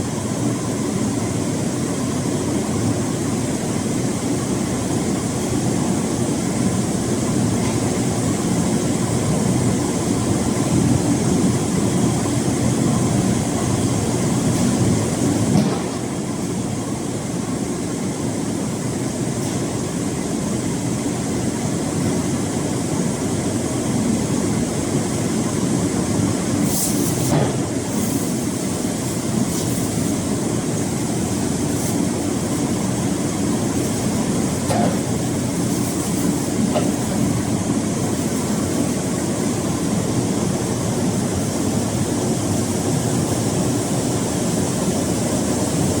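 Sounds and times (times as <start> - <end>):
industrial machinery running: 0.0 - 46.0.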